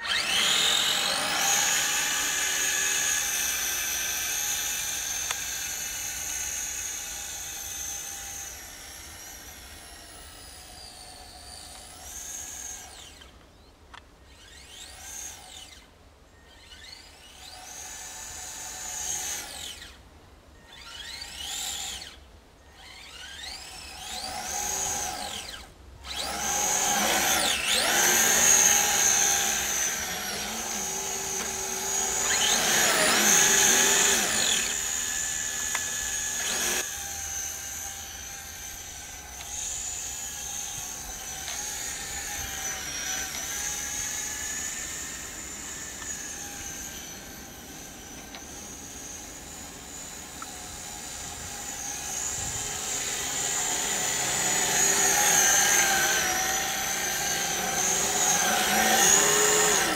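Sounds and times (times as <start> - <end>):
electric motor and gears whining: 0.0 - 20.0, 20.6 - 59.9.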